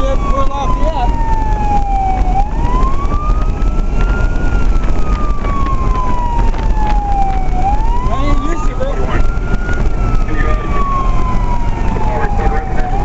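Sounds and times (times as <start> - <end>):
fire engine siren wailing: 0.0 - 13.0
road noise: 0.0 - 13.0
truck engine rumble: 0.0 - 13.0.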